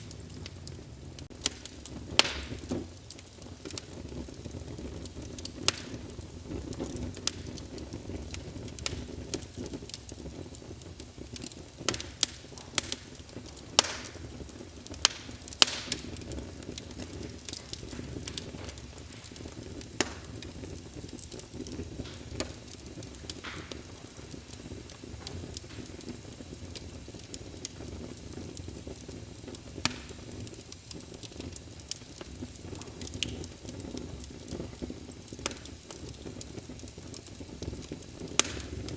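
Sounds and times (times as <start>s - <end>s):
fire crackling and popping: 0.0s - 38.9s
fire flames rumbling: 0.0s - 38.9s.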